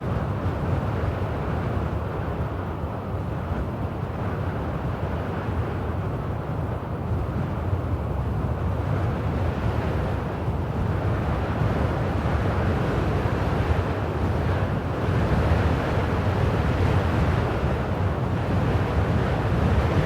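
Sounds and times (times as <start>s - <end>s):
steady wind blowing: 0.0s - 20.0s.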